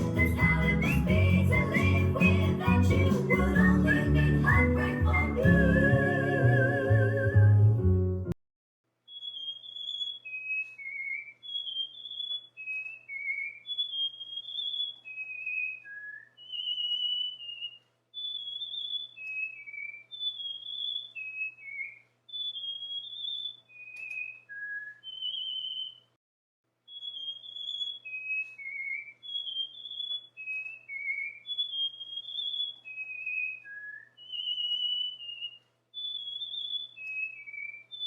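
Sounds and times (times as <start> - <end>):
cockatiel whistling: 0.0 - 7.3, 9.1 - 26.1, 26.9 - 38.0.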